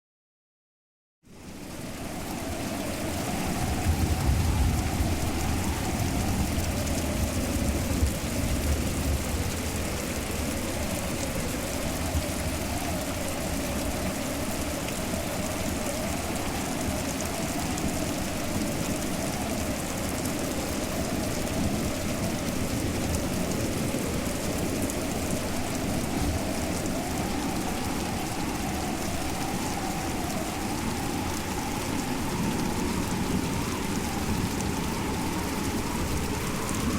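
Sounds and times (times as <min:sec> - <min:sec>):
rain falling: 0:01.3 - 0:36.9.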